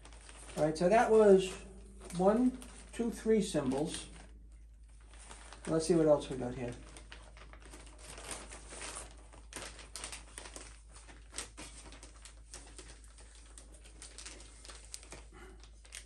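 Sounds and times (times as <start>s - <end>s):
plastic sleeve crinkling: 0.0s - 16.0s.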